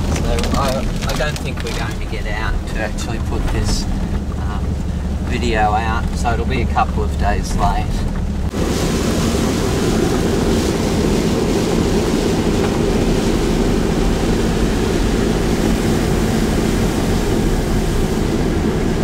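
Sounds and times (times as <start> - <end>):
tyres on wet road: 0.0 - 19.0
vehicle engine rumble: 0.0 - 19.0.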